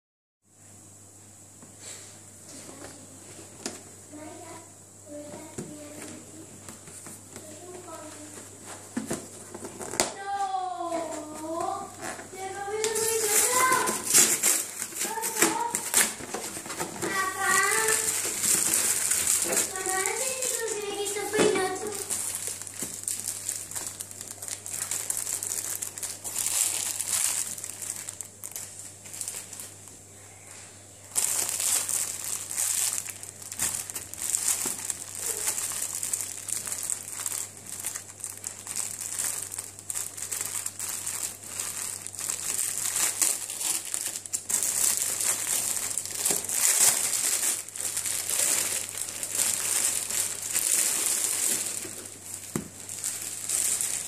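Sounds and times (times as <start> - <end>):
plastic bag crinkling: 6.8 - 29.9, 31.0 - 54.0.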